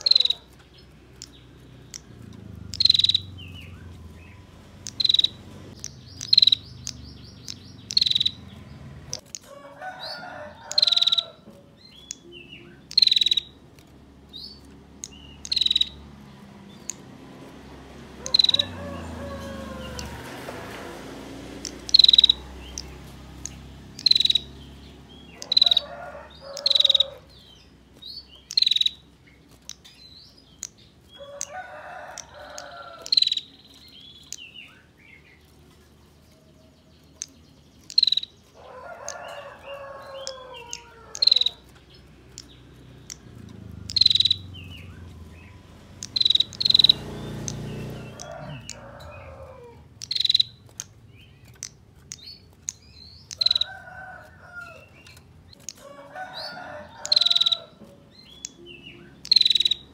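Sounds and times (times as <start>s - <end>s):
roosters crowing: 0.0s - 13.5s, 14.4s - 27.8s, 31.0s - 35.0s, 38.0s - 50.7s, 52.2s - 59.9s
bird high sharp chirps: 0.0s - 16.1s, 18.2s - 20.1s, 21.6s - 31.6s, 32.2s - 35.4s, 37.1s - 49.4s, 50.0s - 53.8s, 56.4s - 59.9s.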